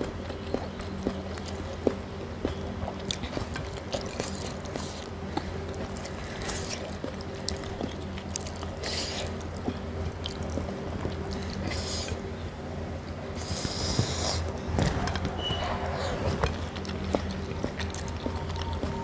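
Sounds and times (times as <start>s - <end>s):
wet chewing: 0.0s - 12.4s, 13.1s - 19.0s
steady low hum: 0.0s - 19.0s.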